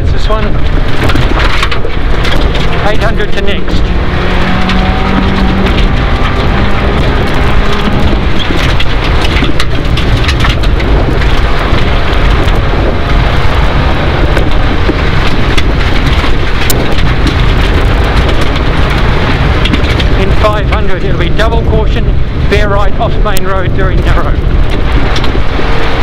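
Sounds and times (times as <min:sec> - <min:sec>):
car engine and road noise: 0:00.0 - 0:26.0
gravel striking underbody: 0:00.0 - 0:26.0.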